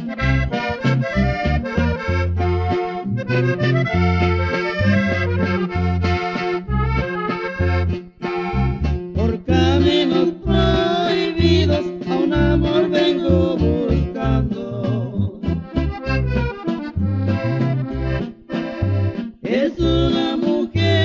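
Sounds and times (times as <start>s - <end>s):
repeating bass line: 0.0s - 19.2s, 19.8s - 21.0s
button accordion melody: 0.0s - 21.0s.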